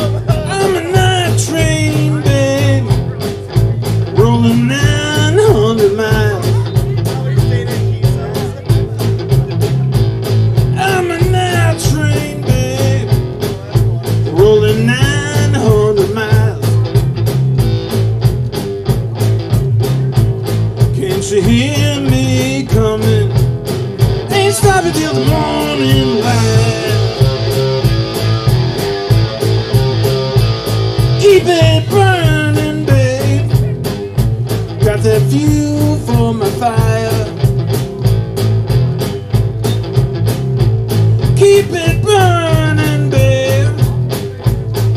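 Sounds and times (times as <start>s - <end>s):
bass line: 0.0s - 44.9s
drum beat: 0.0s - 44.9s
electric guitar lines: 0.0s - 44.9s.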